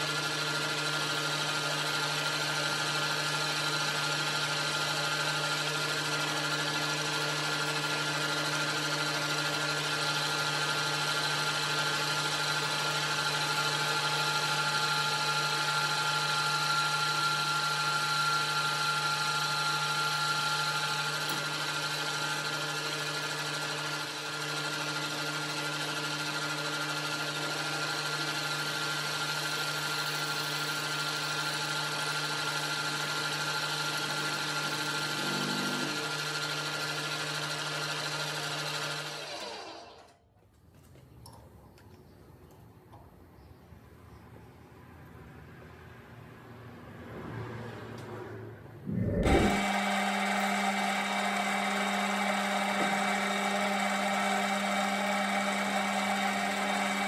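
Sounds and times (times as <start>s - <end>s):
metal lathe running: 0.0s - 40.0s, 48.9s - 57.0s.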